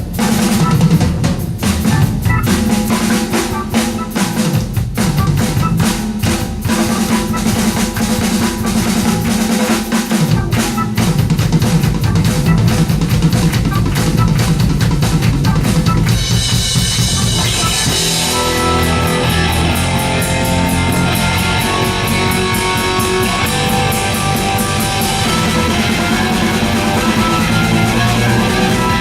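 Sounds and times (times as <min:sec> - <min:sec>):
live hard rock band: 0:00.0 - 0:29.0.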